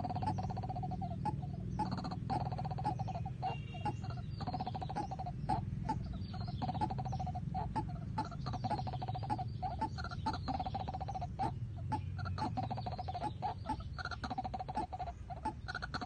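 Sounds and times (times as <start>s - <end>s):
birds calling rapid notes: 0.0s - 16.0s
low steady hum: 0.0s - 16.0s.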